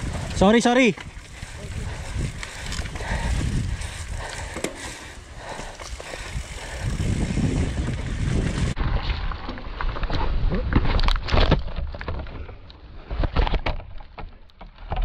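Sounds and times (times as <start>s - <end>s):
bike knocking and rattling: 0.0s - 15.0s
bike tyres rolling over dirt: 0.0s - 15.0s.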